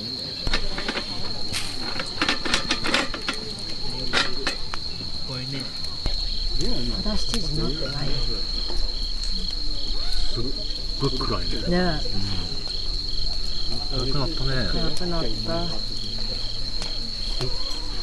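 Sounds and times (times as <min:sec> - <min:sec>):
campfire crackles: 0:00.0 - 0:18.0
crickets chirping: 0:00.0 - 0:18.0
pulsing insect: 0:00.0 - 0:18.0.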